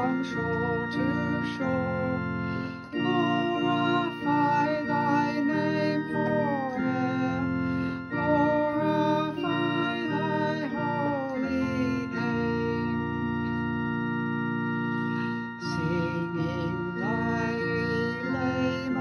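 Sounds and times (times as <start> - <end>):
person singing: 0.0 - 13.6, 15.2 - 19.0
organ worship music: 0.0 - 19.0.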